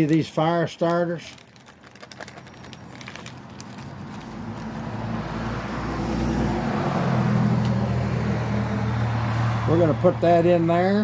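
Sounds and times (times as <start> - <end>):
vehicle engine hum and road noise: 1.3 - 11.0.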